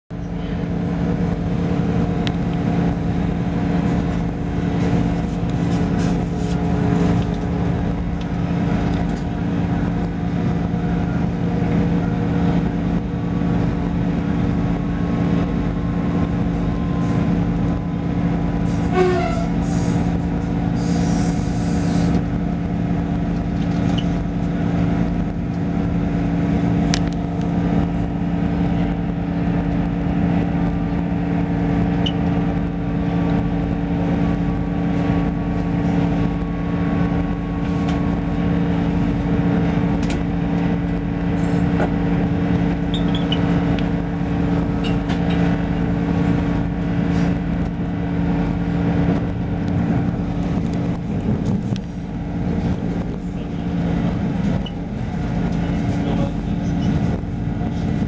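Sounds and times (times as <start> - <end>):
train wheels rumbling: 0.1 - 58.0.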